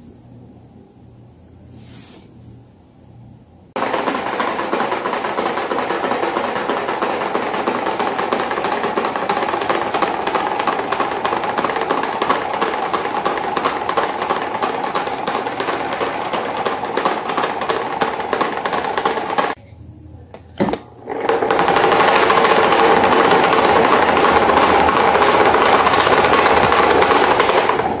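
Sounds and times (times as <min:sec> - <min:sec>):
electric fan rattling: 0:03.2 - 0:19.6, 0:20.5 - 0:28.0.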